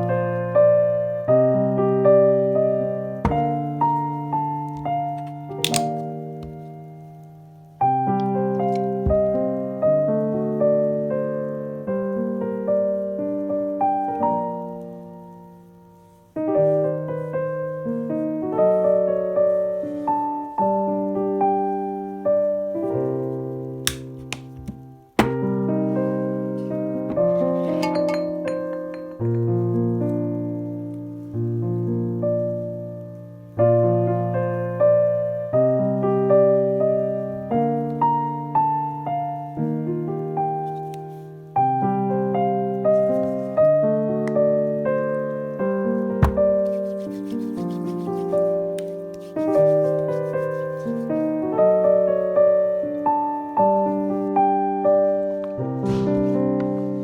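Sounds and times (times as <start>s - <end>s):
piano notes: 0.0s - 15.5s, 16.4s - 57.0s.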